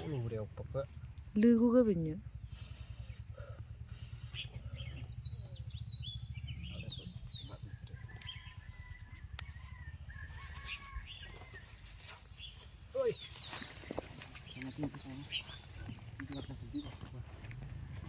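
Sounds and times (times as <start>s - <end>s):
low pulsing rumble: 0.0s - 18.0s
small birds chirping: 0.0s - 18.0s.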